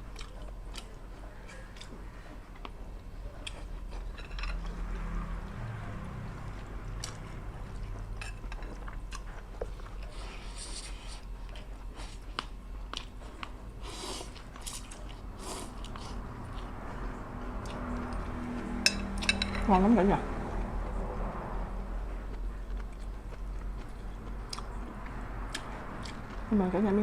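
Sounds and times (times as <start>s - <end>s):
person chewing food: 0.0s - 5.6s, 6.2s - 19.3s, 22.0s - 26.5s.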